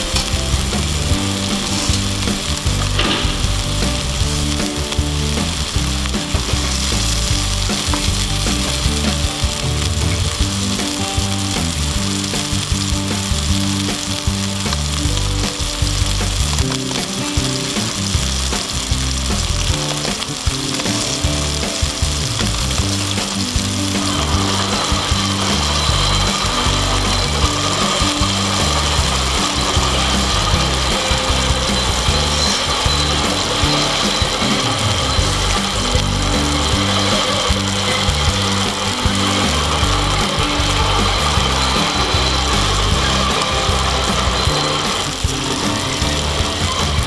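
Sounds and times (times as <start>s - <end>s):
meat sizzling over a fire: 0.0s - 47.0s.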